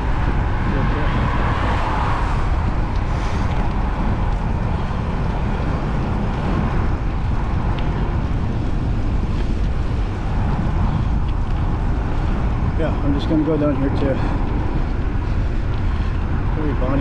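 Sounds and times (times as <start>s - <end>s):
road noise: 0.0s - 17.0s
wind rumbling on microphone: 0.0s - 17.0s.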